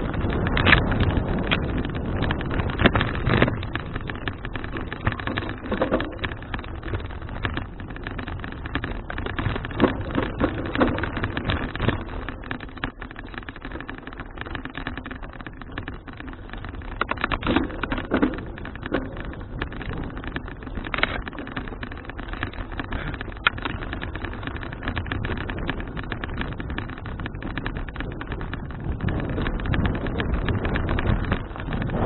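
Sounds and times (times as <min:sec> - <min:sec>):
bike rattles and clicks: 0:00.0 - 0:32.0
low rumble: 0:00.0 - 0:32.0
wind buffeting microphone: 0:00.0 - 0:32.0.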